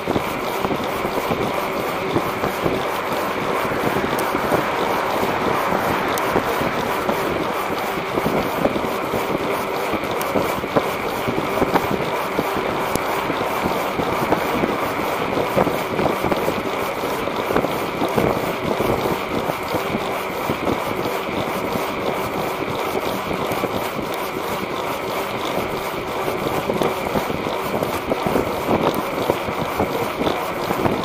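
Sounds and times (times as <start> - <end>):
bicycle tyre rolling on street: 0.0 - 31.0
wind buffeting microphone: 0.0 - 31.0.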